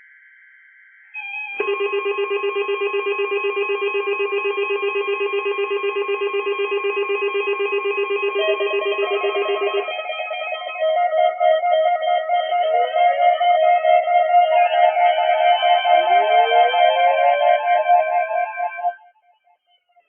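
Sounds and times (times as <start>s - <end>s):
pulsing electronic alarm beep: 1.0s - 19.1s.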